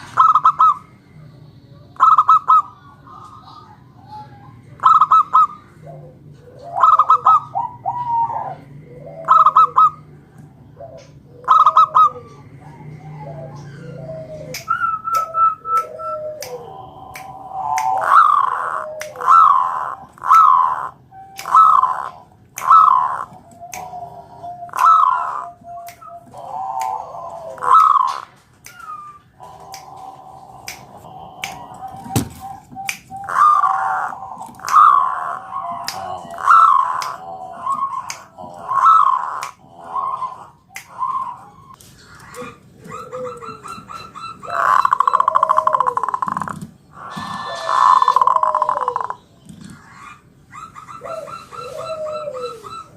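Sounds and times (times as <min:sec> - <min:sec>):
dove cooing: 0:00.0 - 0:00.9, 0:02.0 - 0:52.9.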